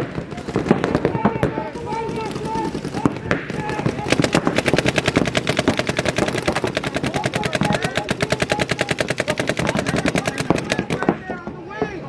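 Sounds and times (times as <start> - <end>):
paintball guns firing rapidly: 0.0 - 11.9.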